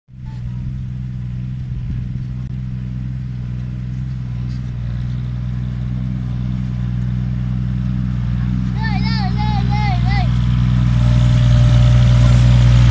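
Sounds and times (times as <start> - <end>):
diesel truck engine running: 0.1 - 12.9.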